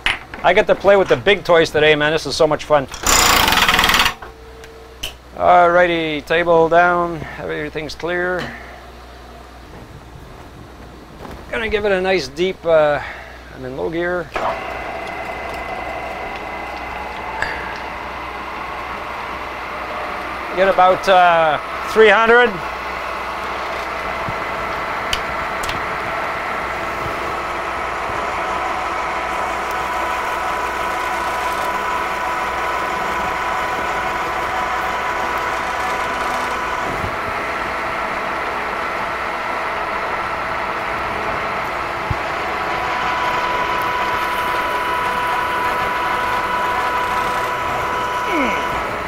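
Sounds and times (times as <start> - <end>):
milling machine hum: 0.0 - 49.0.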